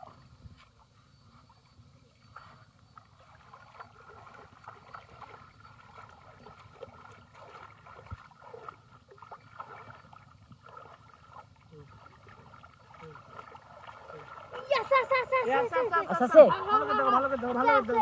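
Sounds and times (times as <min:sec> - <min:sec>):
splashing in shallow muddy water: 0:00.0 - 0:18.0.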